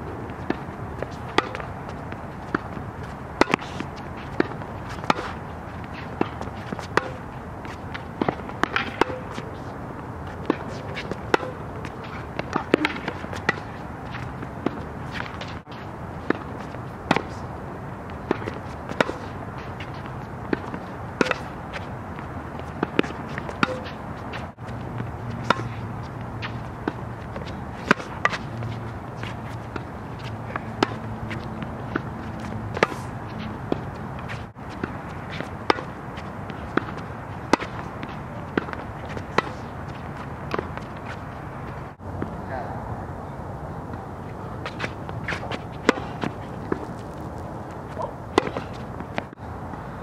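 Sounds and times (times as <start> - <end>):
tennis ball bouncing: 0.0 - 42.4, 43.9 - 49.8
tennis racket hitting ball: 0.3 - 9.6, 10.2 - 41.9, 44.6 - 49.4.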